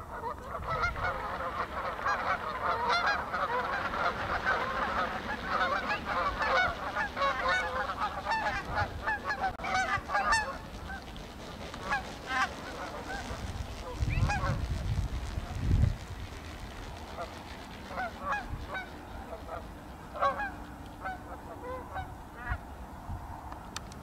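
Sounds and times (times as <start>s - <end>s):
geese honking: 0.0s - 22.7s.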